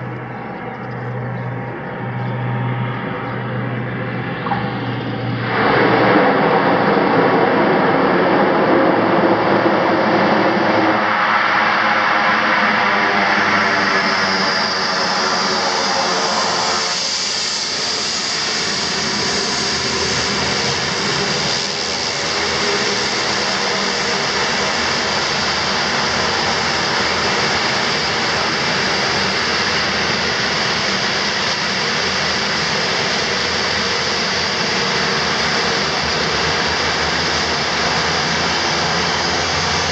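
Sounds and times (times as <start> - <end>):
turboprop engines with turbine whine: 0.0 - 39.9.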